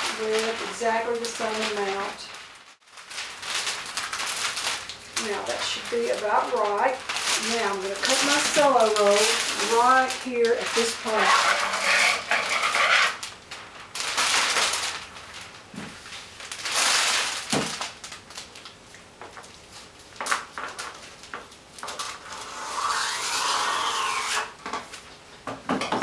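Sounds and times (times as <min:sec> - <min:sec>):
cellophane crinkling: 0:00.0 - 0:22.7.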